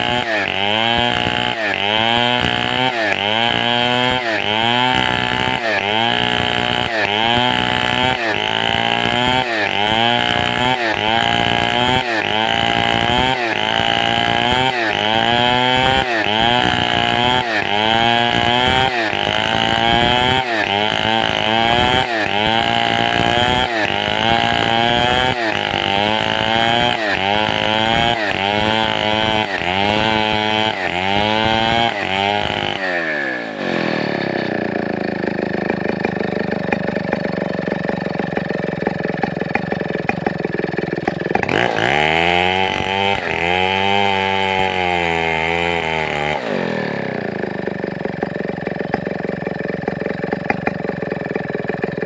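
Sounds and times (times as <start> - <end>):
chainsaw revving and idling: 0.0 - 52.0.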